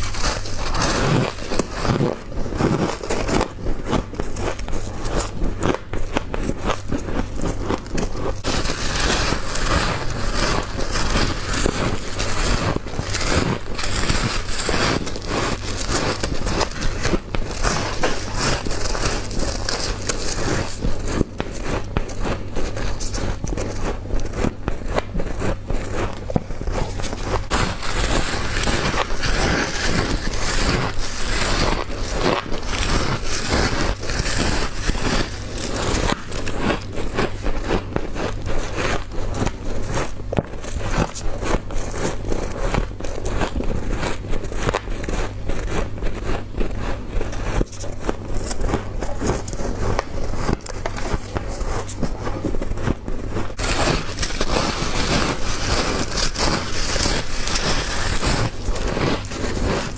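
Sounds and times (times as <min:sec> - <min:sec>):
crunching ice being chewed: 0:00.0 - 0:59.9.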